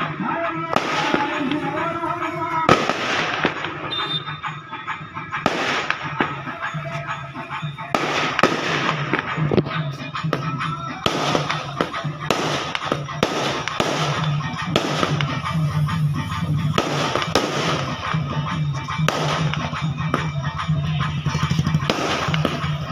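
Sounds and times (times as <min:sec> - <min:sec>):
fireworks bangs and crackles: 0:00.0 - 0:22.9
music: 0:00.0 - 0:22.9.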